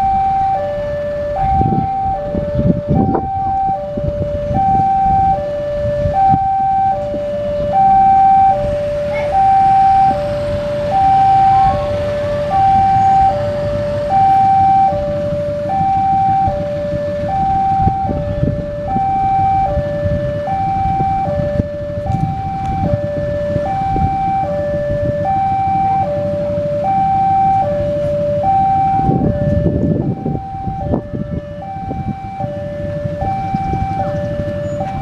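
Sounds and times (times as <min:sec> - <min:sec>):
level-crossing two-tone alarm: 0:00.0 - 0:35.0.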